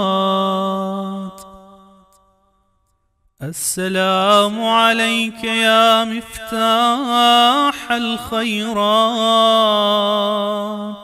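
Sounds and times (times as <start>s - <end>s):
person chanting a prayer: 0.0s - 2.0s, 3.4s - 11.0s.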